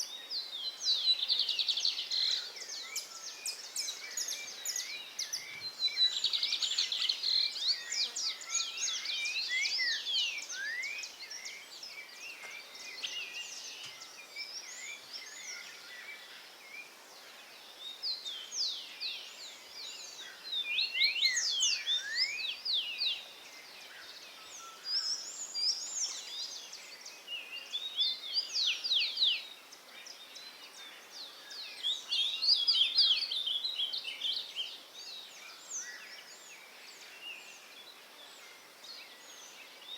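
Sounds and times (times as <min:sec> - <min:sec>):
bird song with high notes: 0:00.0 - 0:39.9
faint steady hiss: 0:00.0 - 0:39.9.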